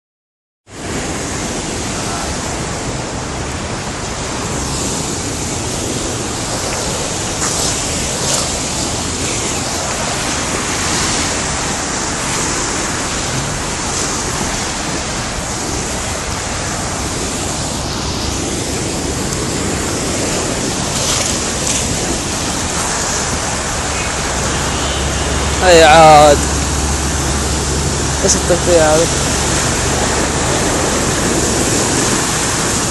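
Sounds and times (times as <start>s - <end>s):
heavy rain pouring: 0.7s - 32.9s
sharper rain patters: 3.9s - 32.9s.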